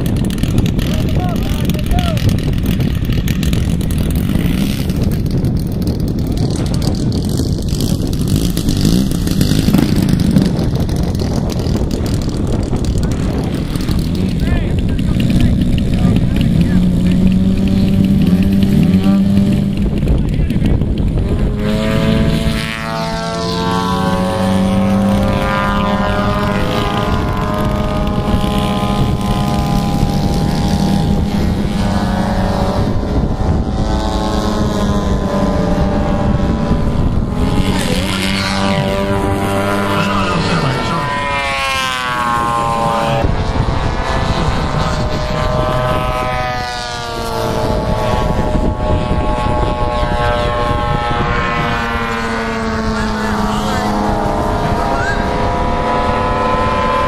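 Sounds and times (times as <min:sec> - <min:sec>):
model airplane engines: 0:00.0 - 0:57.0.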